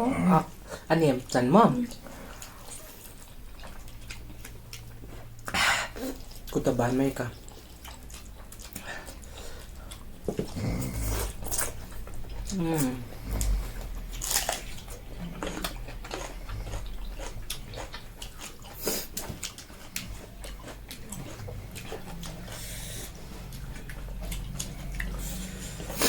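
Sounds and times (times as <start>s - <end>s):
people chewing food: 0.0s - 26.0s.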